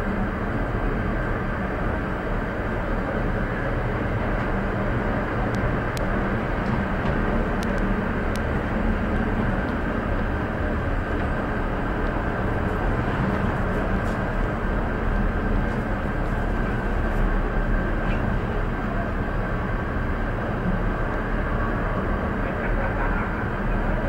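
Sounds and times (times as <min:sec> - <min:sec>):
cable car gondola rumble and hum: 0:00.0 - 0:24.0.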